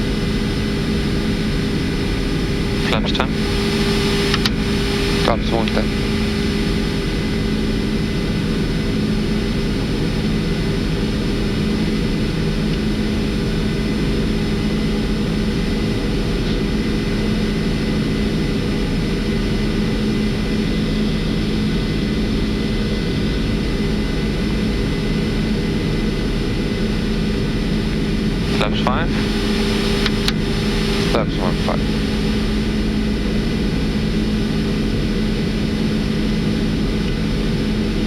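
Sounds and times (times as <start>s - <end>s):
electrical hum: 0.0s - 38.0s
engine and airflow rush: 0.0s - 38.0s.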